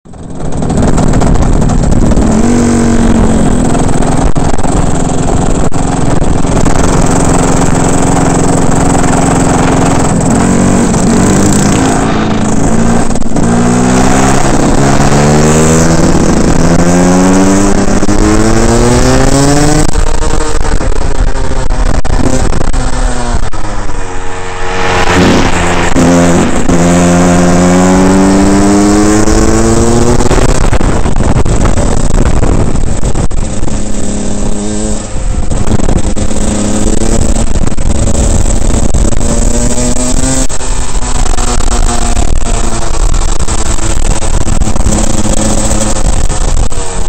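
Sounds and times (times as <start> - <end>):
kart engine revving: 0.1 - 47.0
wind noise: 0.1 - 47.0.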